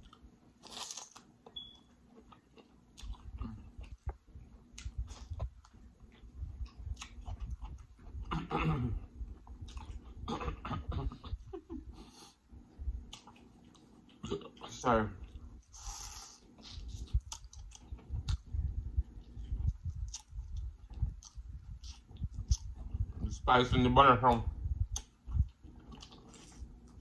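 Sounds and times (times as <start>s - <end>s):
wet chewing and lip smacks: 0.0s - 8.3s, 9.3s - 10.2s, 12.9s - 23.2s, 24.3s - 27.0s.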